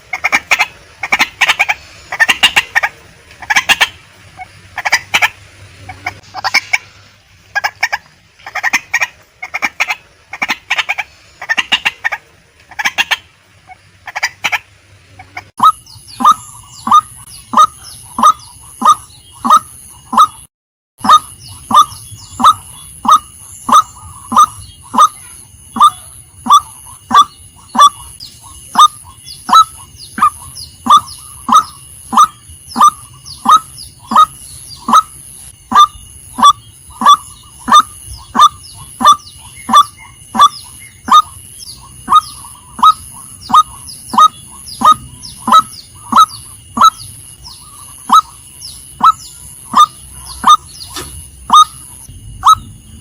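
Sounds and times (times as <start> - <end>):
waterhen calling: 0.0 - 52.8.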